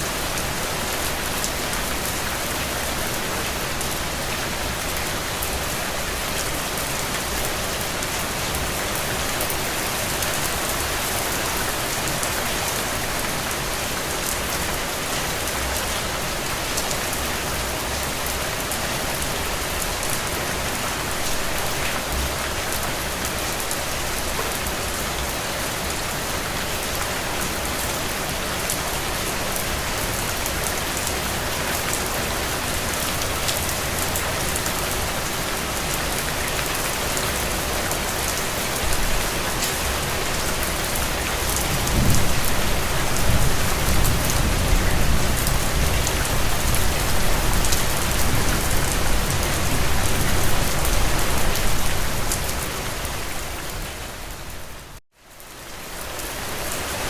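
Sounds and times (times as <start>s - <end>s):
rain drops pattering: 0.1s - 56.9s.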